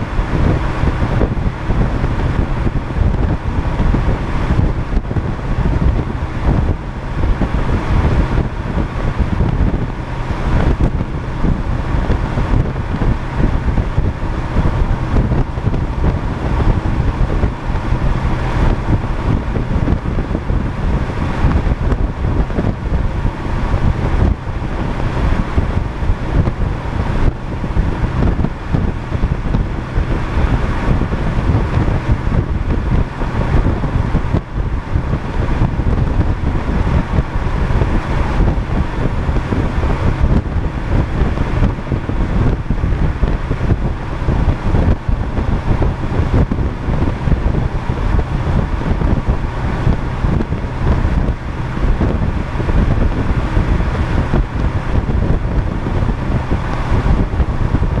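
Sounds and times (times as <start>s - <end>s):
car road and tyre noise: 0.0s - 58.0s
wind buffeting microphone: 0.0s - 58.0s.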